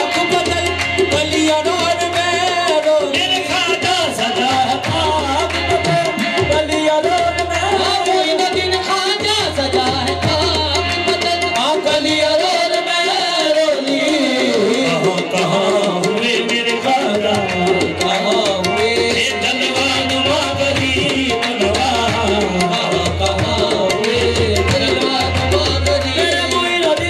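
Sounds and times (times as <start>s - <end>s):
steady held accompaniment: 0.0s - 27.0s
tabla drumming: 0.0s - 27.0s.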